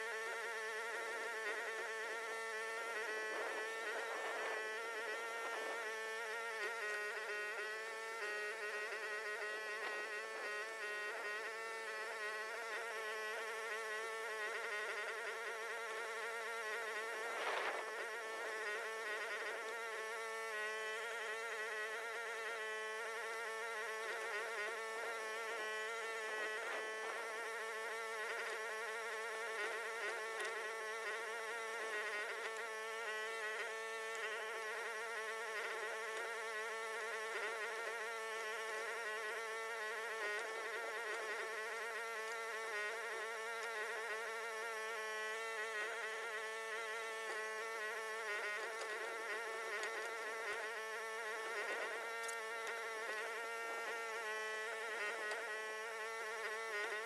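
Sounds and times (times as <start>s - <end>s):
excavator engine and hydraulic drone: 0.0s - 57.0s.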